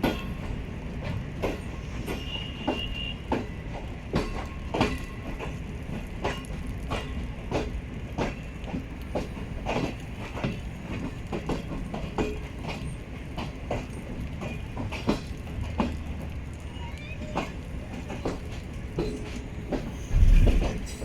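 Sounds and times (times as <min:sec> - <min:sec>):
train wheels clacking over rail joints: 0:00.0 - 0:16.7, 0:17.3 - 0:21.0
train rumbling past: 0:00.0 - 0:21.0.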